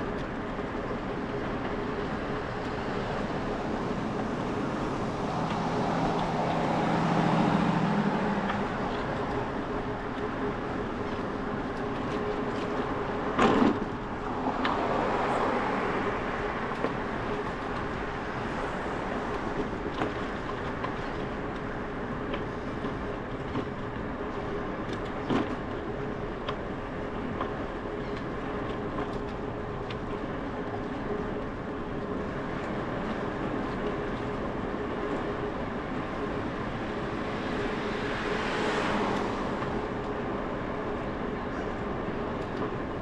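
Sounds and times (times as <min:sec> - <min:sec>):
bicycle road noise and wind: 0:00.0 - 0:43.0.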